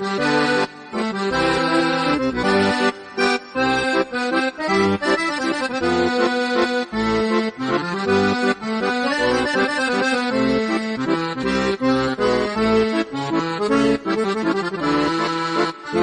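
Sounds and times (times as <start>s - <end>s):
instrumental music with bass beat: 0.0s - 16.0s.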